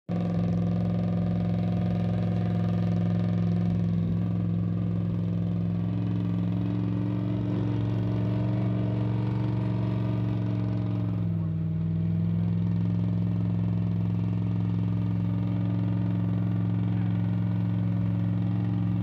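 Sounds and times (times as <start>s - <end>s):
vehicle engine running: 0.1s - 19.0s.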